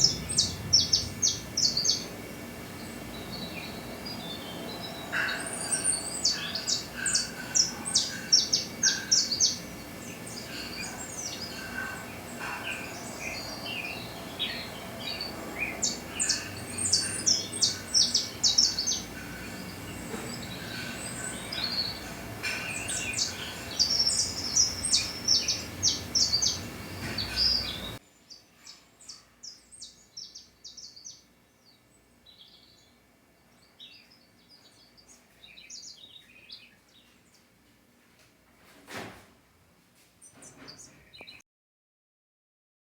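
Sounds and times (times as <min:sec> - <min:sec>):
small birds chirping: 0:00.0 - 0:37.5, 0:40.2 - 0:41.4
steady background hiss: 0:00.0 - 0:40.3.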